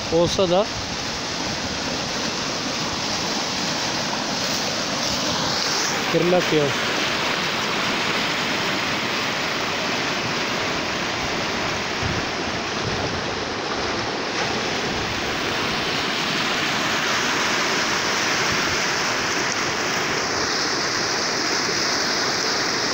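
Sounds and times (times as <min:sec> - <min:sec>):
water rushing over rapids: 0:00.0 - 0:22.9.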